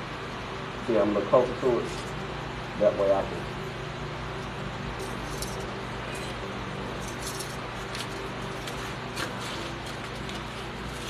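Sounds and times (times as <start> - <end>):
shop hum and hiss: 0.0 - 11.0.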